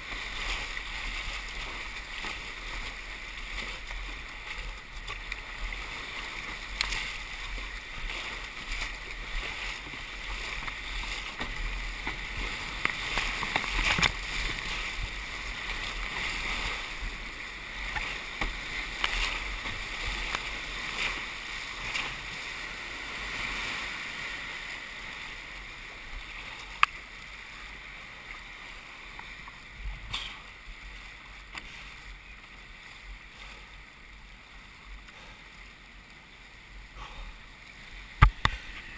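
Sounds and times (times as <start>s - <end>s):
paddle strokes splashing: 0.0s - 38.9s
rushing whitewater: 0.0s - 38.9s.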